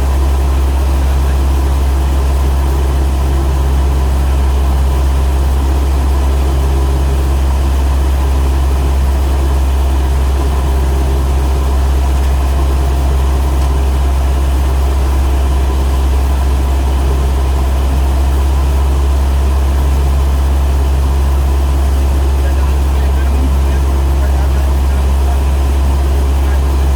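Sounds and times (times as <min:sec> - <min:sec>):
light aircraft engine droning: 0:00.0 - 0:26.9.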